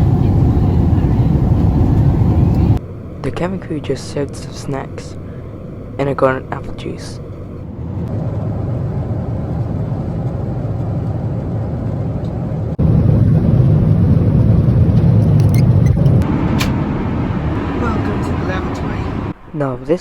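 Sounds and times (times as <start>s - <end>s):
airliner cabin noise: 0.0s - 20.0s.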